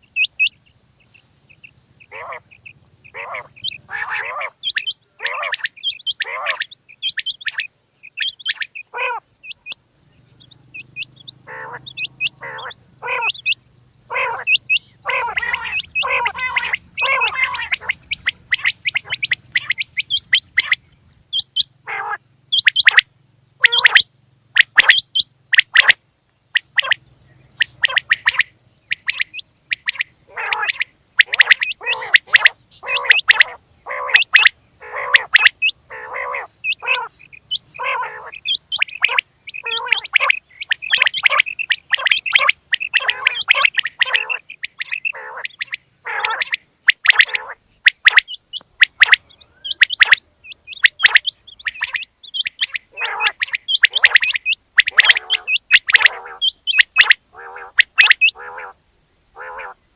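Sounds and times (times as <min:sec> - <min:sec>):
quail calling: 0:00.0 - 0:59.8.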